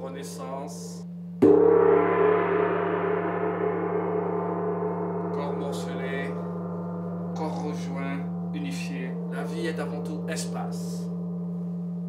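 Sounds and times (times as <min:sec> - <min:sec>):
steady low hum: 0:00.0 - 0:12.0
gong struck with a mallet: 0:01.3 - 0:12.0.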